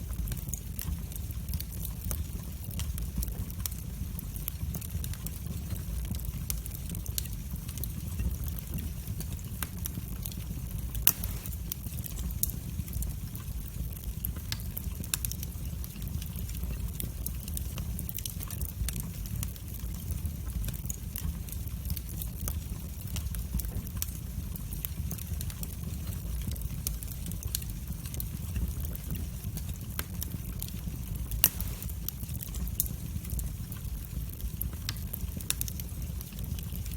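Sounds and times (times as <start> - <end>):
fire crackling and popping: 0.0 - 36.9
flames rumbling: 0.0 - 36.9.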